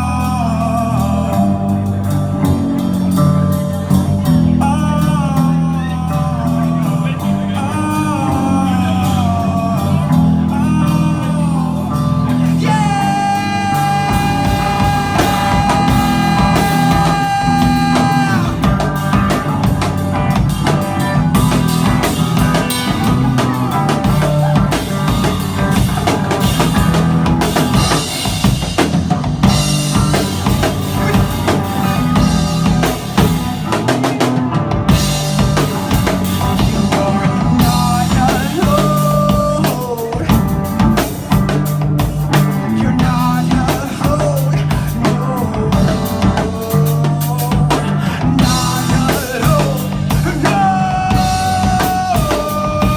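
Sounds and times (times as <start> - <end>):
pop-rock band playing: 0.0 - 52.9.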